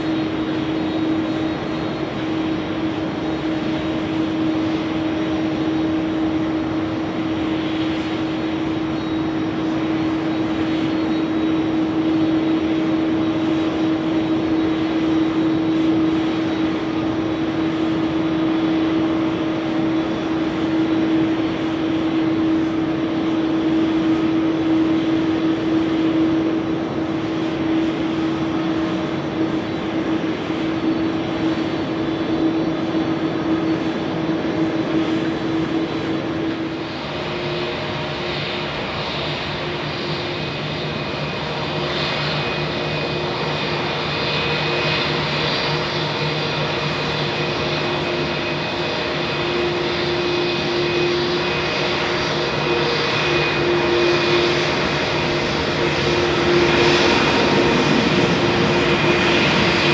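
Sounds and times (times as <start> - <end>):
constant low hum: 0.0 - 59.9
jet engine rumble and rush: 0.0 - 59.9.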